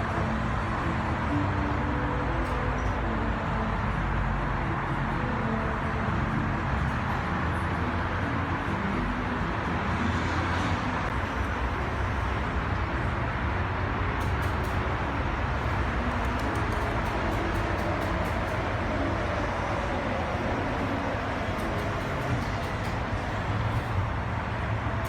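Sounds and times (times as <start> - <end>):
low urban rumble: 0.0 - 25.0.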